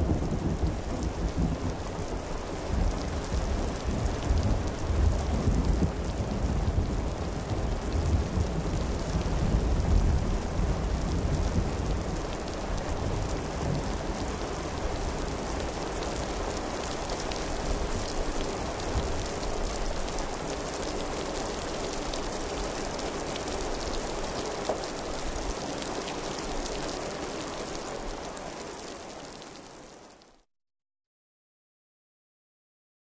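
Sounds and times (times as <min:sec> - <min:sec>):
steady rain on surfaces: 0:00.0 - 0:30.5.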